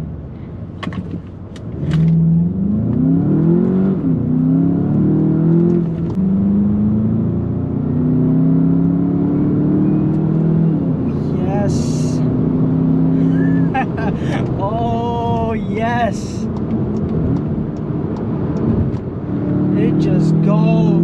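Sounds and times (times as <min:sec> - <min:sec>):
car engine accelerating: 0:00.9 - 0:21.0.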